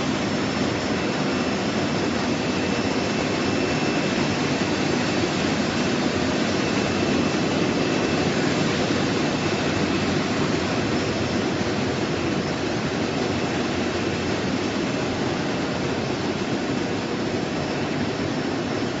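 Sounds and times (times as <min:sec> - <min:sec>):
machine high whine: 0:00.0 - 0:19.0.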